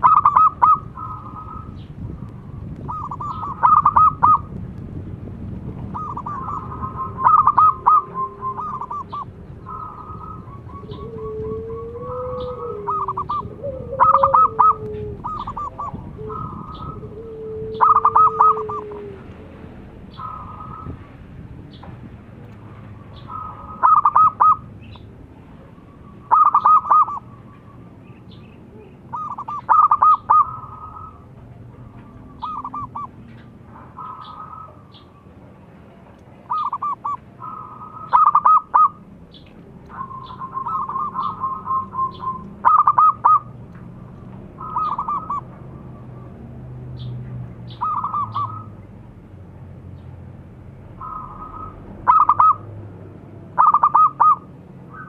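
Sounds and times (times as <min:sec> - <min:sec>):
dove cooing song: 0:00.0 - 0:04.6, 0:05.8 - 0:21.8, 0:22.9 - 0:35.4, 0:36.4 - 0:48.9, 0:50.9 - 0:52.9, 0:53.5 - 0:55.0.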